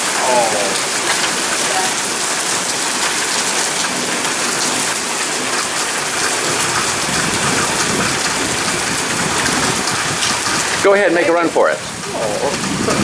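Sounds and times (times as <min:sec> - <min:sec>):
heavy rain splashing on hard surfaces: 0:00.0 - 0:13.0.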